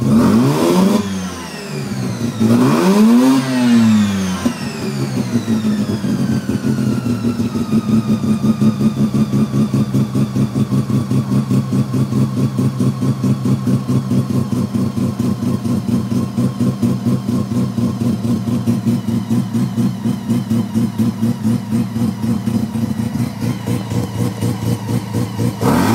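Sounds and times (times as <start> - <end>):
rotary engine idling: 1.6 - 25.9.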